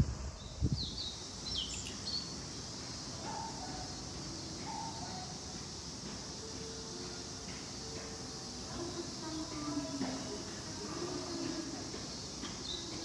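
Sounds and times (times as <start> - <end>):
faint outdoor hiss: 0.0 - 13.0
small birds chirping: 0.3 - 6.1, 7.8 - 13.0.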